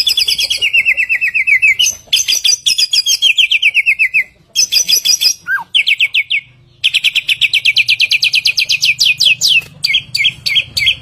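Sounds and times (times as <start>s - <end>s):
songbird singing rapid trills: 0.0s - 11.0s.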